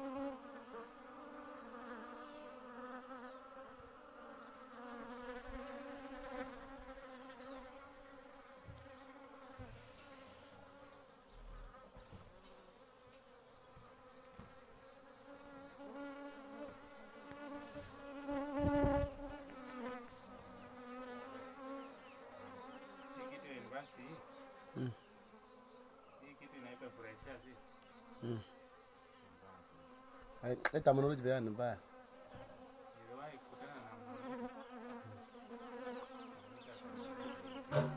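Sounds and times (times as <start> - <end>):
honeybees buzzing: 0.0 - 37.9.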